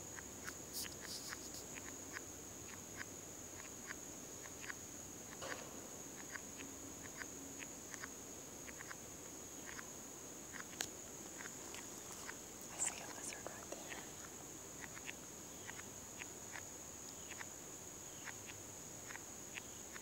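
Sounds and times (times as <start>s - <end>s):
high-pitched insect drone: 0.0s - 10.8s, 11.4s - 20.0s.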